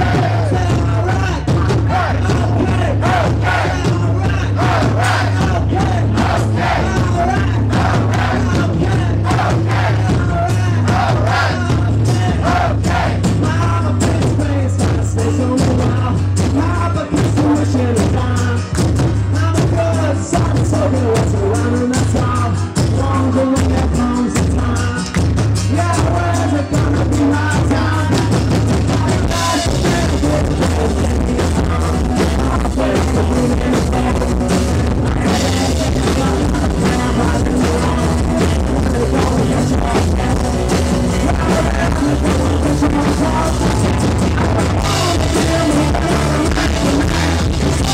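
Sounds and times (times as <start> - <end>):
bass: 0.0 - 47.9
drums: 0.0 - 47.9
person singing: 0.0 - 47.9.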